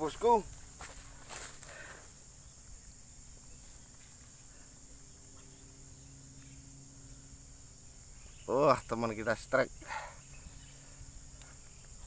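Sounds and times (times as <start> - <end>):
faint low hum: 0.0 - 12.0
insects chirring: 0.0 - 12.0.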